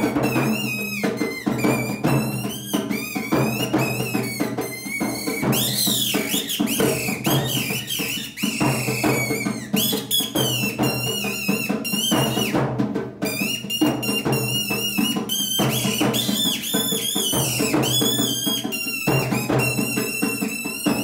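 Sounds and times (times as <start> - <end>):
shrill warbling reed whistle: 0.0 - 12.6, 13.2 - 21.0
drum beating steady rhythm: 0.0 - 21.0.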